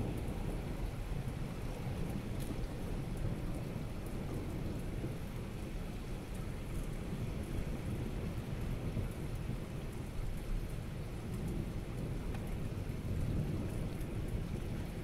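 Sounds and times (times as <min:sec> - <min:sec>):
low rumble of thunder: 0:00.0 - 0:15.0
raindrop ticks: 0:00.0 - 0:15.0
steady rain: 0:00.0 - 0:15.0.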